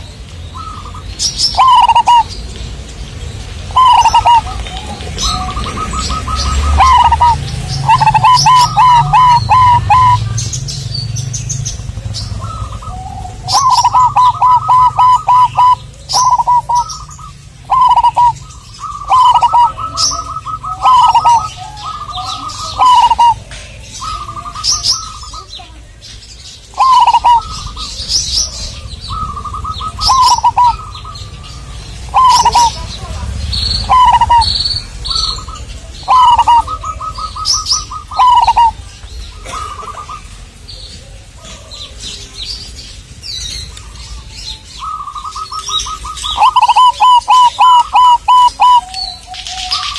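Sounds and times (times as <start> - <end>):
small birds chirping: 0.0 - 49.9
dove cooing in trilled phrases: 0.6 - 2.4, 3.6 - 10.4, 11.9 - 25.6, 26.7 - 33.2, 33.8 - 40.6, 44.8 - 49.9.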